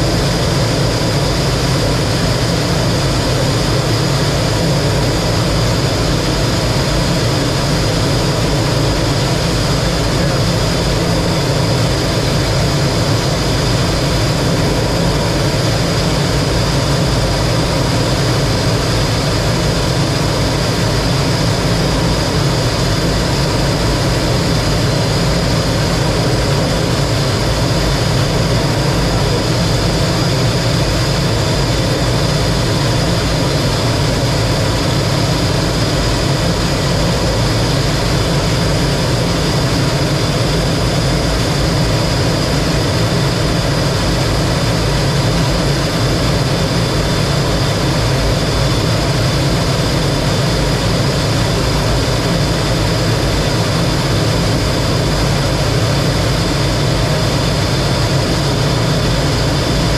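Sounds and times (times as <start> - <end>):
high jet whine: 0.0 - 59.9
jet roaring in flight: 0.0 - 59.9.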